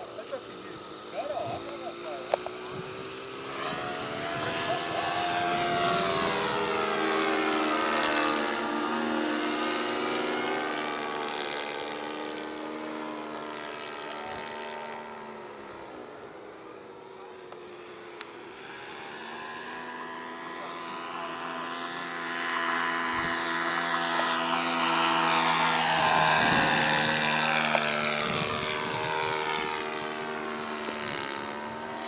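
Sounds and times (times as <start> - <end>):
model airplane engine in flight: 0.0 - 32.0.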